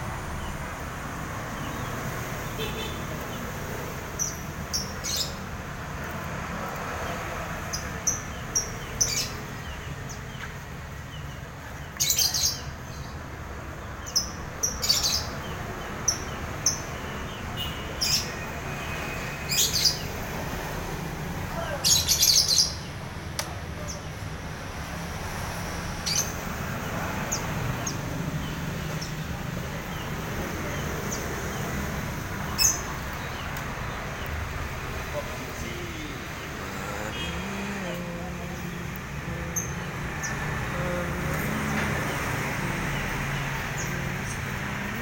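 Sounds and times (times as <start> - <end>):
songbirds chirping: 0.0 - 45.0.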